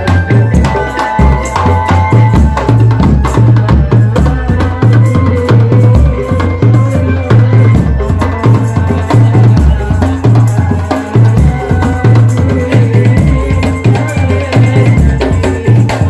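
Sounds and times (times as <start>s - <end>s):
heavy bass drums: 0.0s - 16.0s
percussion: 0.0s - 16.0s.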